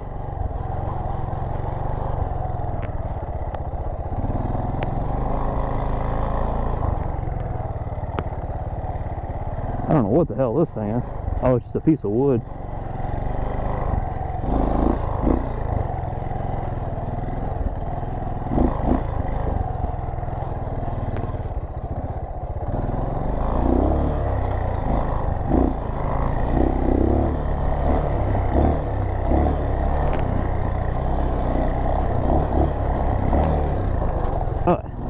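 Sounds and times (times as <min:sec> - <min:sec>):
dirt bike engine rumble: 0:00.0 - 0:35.0.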